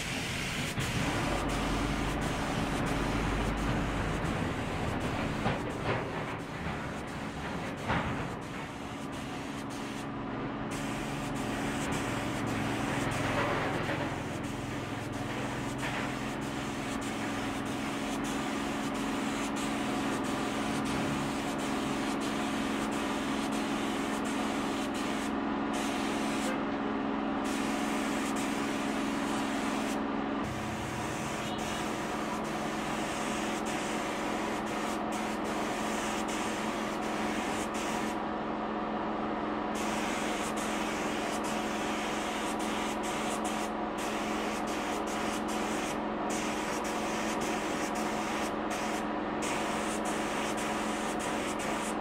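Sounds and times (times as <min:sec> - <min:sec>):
spray gun hissing: 0:00.0 - 0:10.0, 0:10.7 - 0:26.6, 0:27.4 - 0:38.2, 0:39.8 - 0:52.0
steady mechanical hum: 0:00.0 - 0:52.0.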